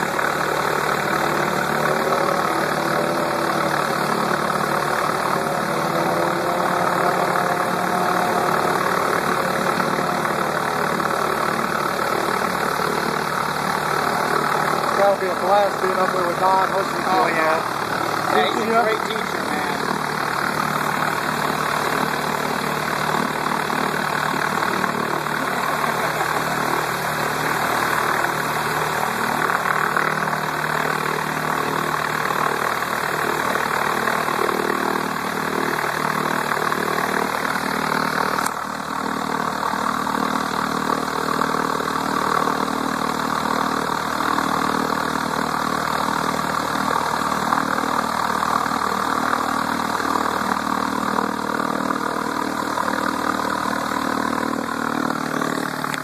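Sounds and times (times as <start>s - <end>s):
aircraft engine and propeller idling: 0.0s - 56.0s.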